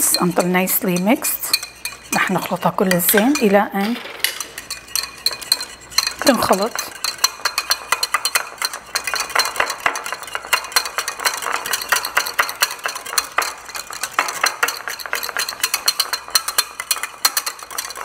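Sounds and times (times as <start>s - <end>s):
whisk clicking against glass bowl: 0.0s - 18.0s.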